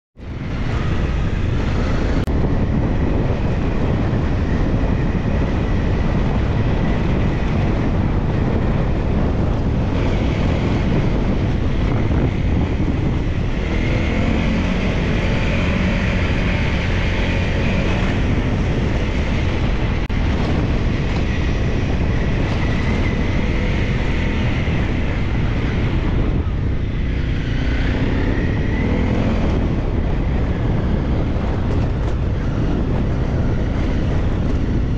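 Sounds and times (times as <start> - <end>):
wind buffeting microphone: 0.2 - 34.9
dirt bike engines revving: 0.3 - 34.9.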